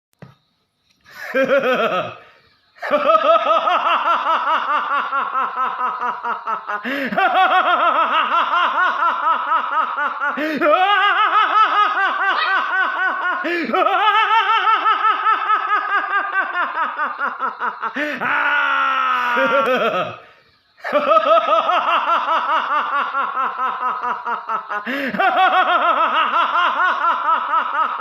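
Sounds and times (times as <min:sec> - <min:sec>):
man's theatrical villain laugh: 0:01.1 - 0:28.0.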